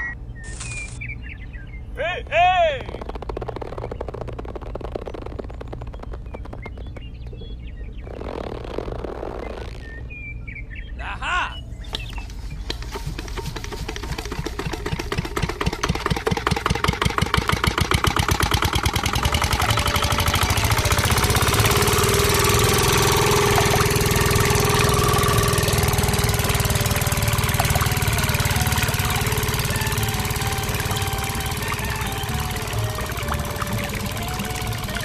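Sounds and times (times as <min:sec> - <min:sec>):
small tractor engine running: 0:02.8 - 0:09.3, 0:12.0 - 0:35.0.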